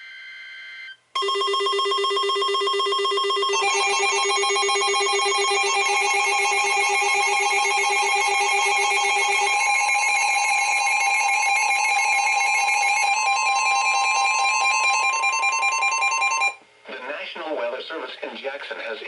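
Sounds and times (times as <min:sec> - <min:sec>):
trilling electronic alarm tone: 0:00.0 - 0:16.6.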